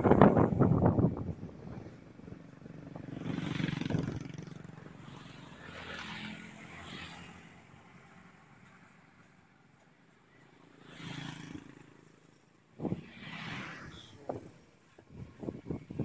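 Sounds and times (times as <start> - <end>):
motorcycles passing: 0.0 - 16.0.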